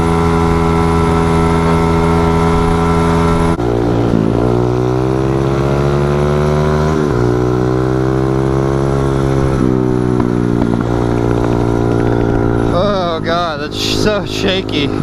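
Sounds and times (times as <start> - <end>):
small motorcycle engine revving: 0.0 - 15.0.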